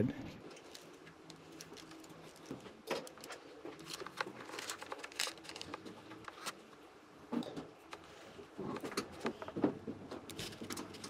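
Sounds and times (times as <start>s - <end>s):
small clicks and rustles: 0.5s - 6.6s, 7.9s - 11.0s.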